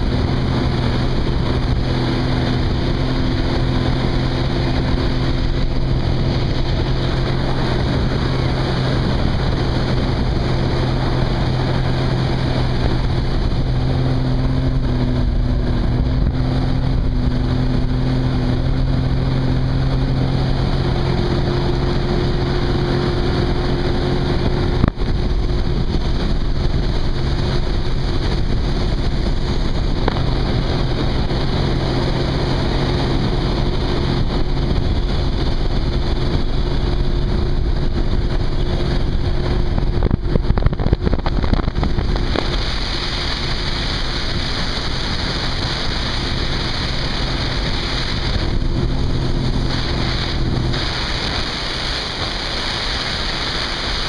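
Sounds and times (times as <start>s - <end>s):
water rushing under hull: 0.0s - 54.0s
watercraft engine running: 0.0s - 54.0s
wind buffeting microphone: 0.0s - 54.0s.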